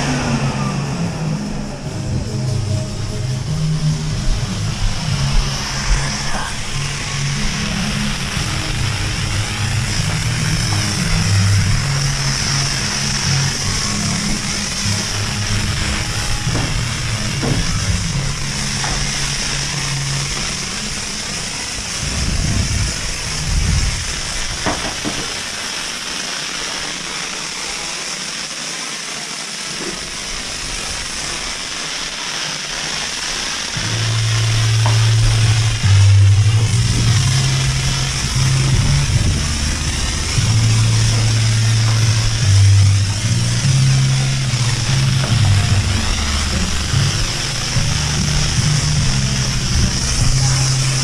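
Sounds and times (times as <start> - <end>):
music with heavy bass: 0.0 - 24.6, 33.2 - 51.0
pressure washer spray hissing: 0.0 - 51.0.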